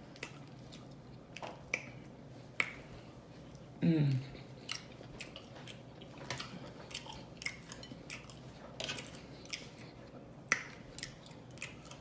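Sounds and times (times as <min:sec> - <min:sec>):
wet chewing and lip smacking: 0:00.0 - 0:12.0.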